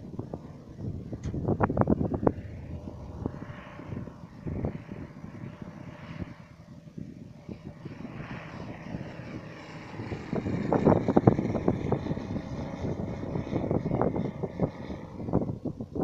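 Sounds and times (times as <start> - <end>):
model plane engine droning: 0.0 - 16.0
wind buffeting microphone: 0.0 - 16.0.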